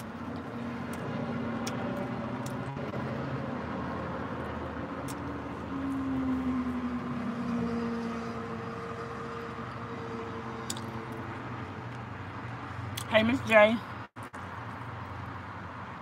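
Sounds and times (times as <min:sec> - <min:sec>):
motor vehicle engine rumble: 0:00.0 - 0:13.0.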